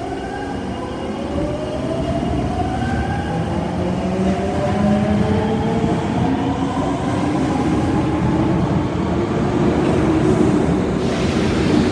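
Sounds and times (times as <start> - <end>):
subway train rail rumble: 0.0 - 11.9.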